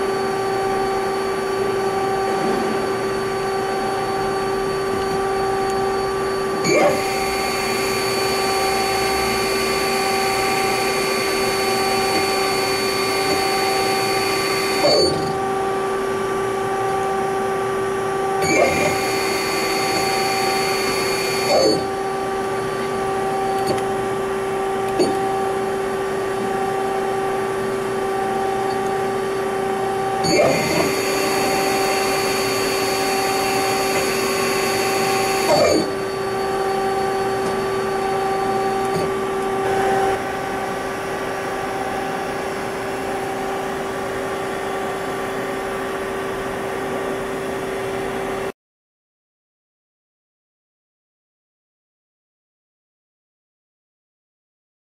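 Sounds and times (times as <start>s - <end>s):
high machine whine: 0.0s - 48.5s
lathe machine hum and whine: 0.0s - 48.5s.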